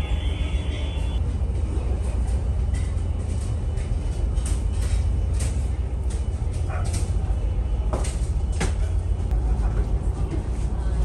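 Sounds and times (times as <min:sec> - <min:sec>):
low rumble of ship engines: 0:00.0 - 0:11.0.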